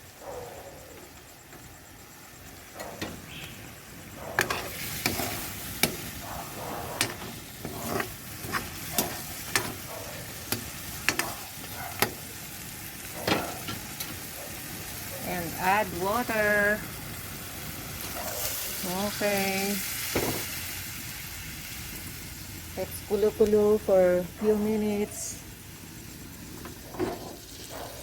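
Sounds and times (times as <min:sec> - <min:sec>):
chicken sizzling in a pot: 0:00.9 - 0:28.0.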